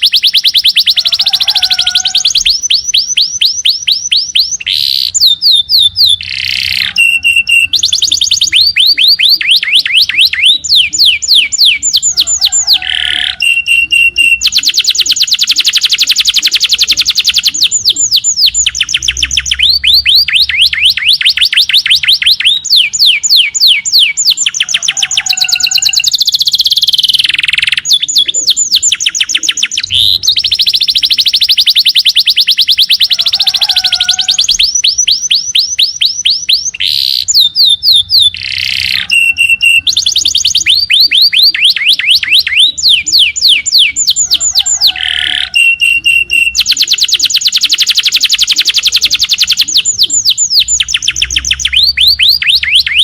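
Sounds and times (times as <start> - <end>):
songbird trilling: 0.0 - 53.0.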